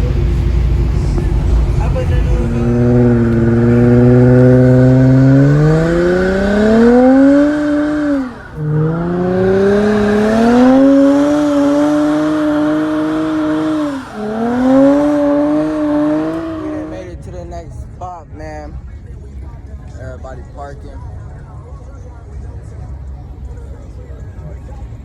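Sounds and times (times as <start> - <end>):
car engine accelerating hard: 0.0 - 21.6.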